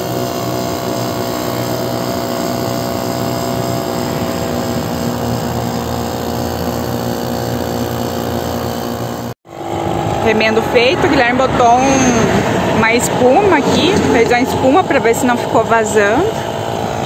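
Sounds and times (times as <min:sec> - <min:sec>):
air compressor humming: 0:00.0 - 0:17.0.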